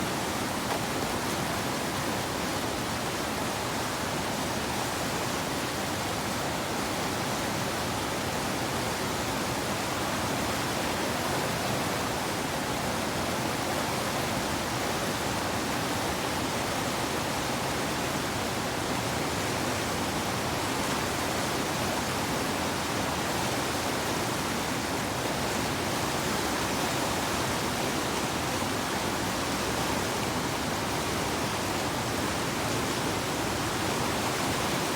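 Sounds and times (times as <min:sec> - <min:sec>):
river rapids rushing: 0:00.0 - 0:34.9.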